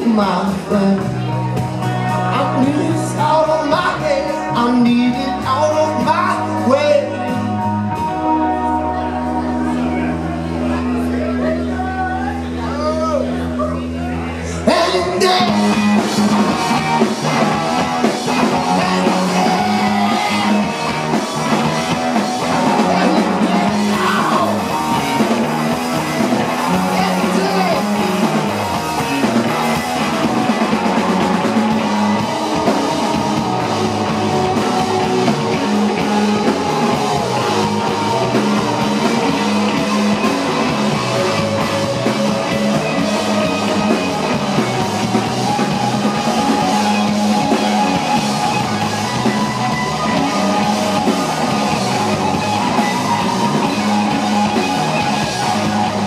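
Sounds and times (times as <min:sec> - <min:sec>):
drum kit: 0:00.0 - 0:11.0, 0:14.7 - 0:56.0
electric bass: 0:00.0 - 0:56.0
electric guitar: 0:00.0 - 0:56.0.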